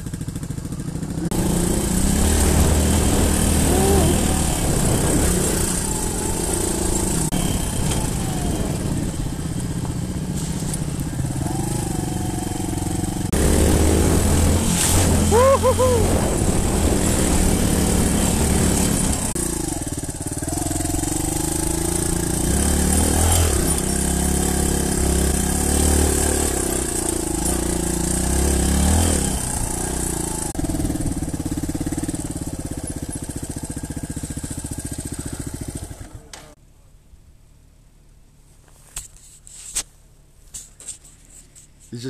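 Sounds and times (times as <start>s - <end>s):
dirt bike engine revving: 0.0s - 36.3s.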